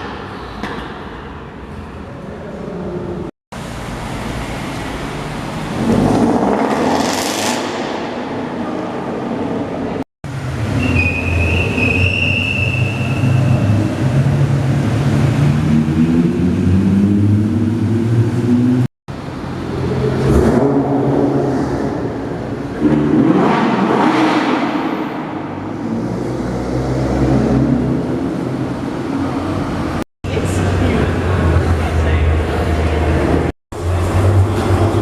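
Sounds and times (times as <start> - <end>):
car engines accelerating: 3.6 - 35.0.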